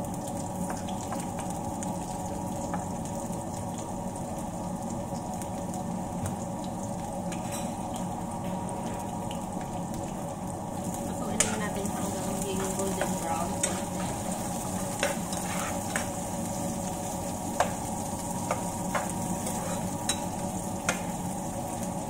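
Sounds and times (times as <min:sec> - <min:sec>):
onion sizzling in oil: 0:00.0 - 0:22.0.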